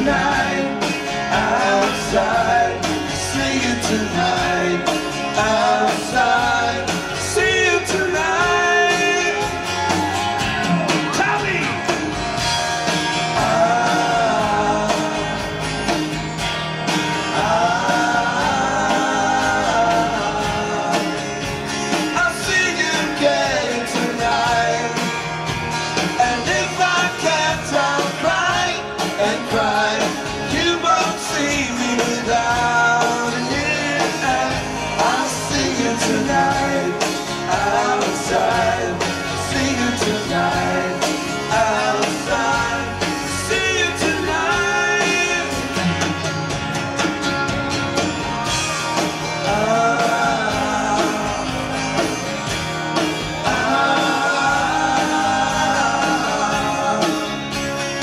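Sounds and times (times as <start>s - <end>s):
man singing: 0.0s - 12.0s, 12.9s - 15.9s, 17.0s - 46.1s, 49.2s - 58.0s
electric bass: 0.0s - 58.0s
strummed acoustic guitar: 0.0s - 58.0s.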